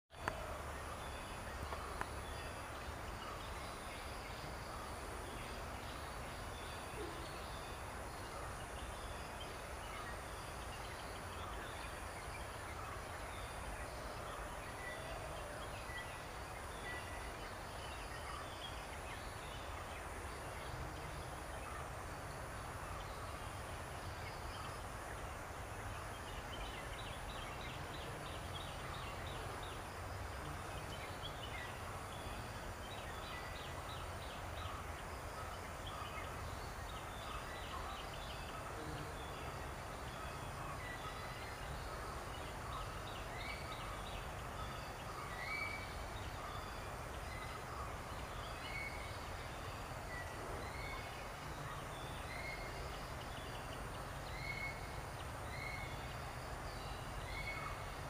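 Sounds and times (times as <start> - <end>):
faint high pulsing buzz: 0.2 - 58.0
low rumble and hiss: 0.2 - 58.0.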